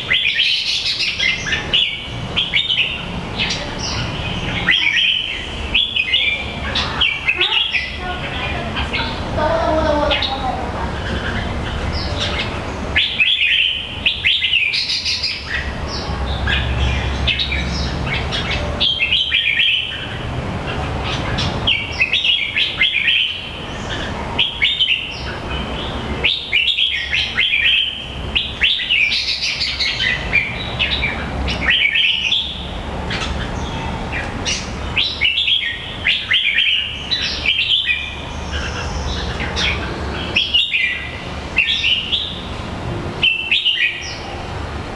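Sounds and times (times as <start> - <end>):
bird chirping: 0.0 - 42.6, 43.2 - 44.5.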